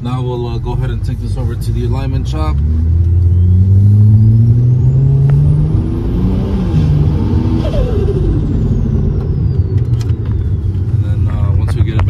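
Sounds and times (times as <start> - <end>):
car engine accelerating hard: 0.2 - 12.0.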